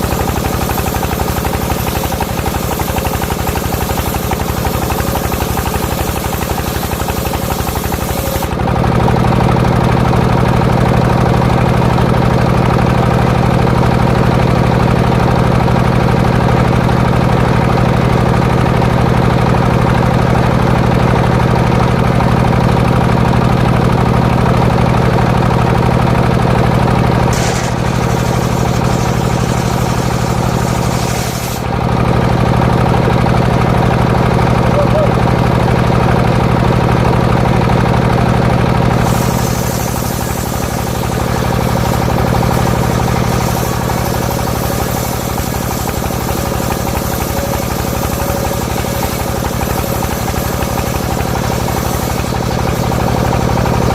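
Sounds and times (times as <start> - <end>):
circular saw engine running: 0.0 - 53.9.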